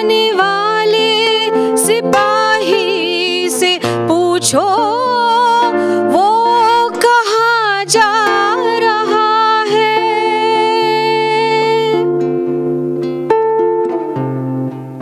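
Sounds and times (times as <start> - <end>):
woman singing: 0.0 - 12.3
guitar chords: 0.0 - 15.0.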